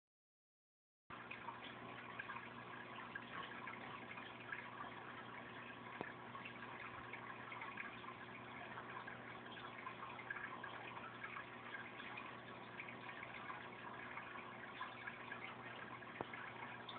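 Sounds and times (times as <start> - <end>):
aquarium water bubbling: 1.1 - 16.9
faint low hum: 1.1 - 16.9.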